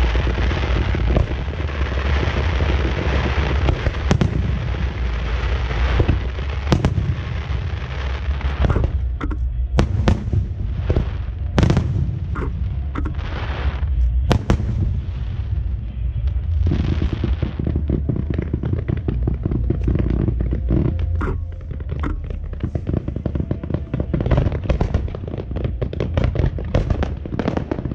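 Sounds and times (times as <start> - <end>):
fireworks hissing and crackling: 0.0 - 27.9
steady low rumble: 0.0 - 27.9.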